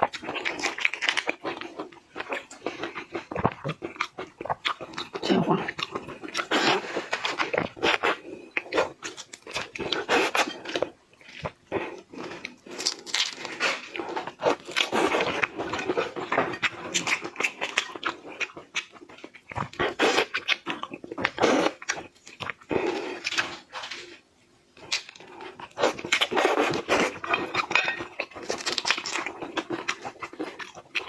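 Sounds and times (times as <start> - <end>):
person chewing and smacking: 0.0 - 24.2, 24.8 - 31.0.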